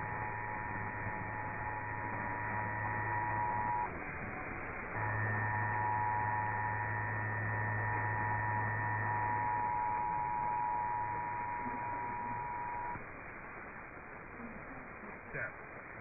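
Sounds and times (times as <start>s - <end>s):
low mains hum: 0.0s - 16.0s.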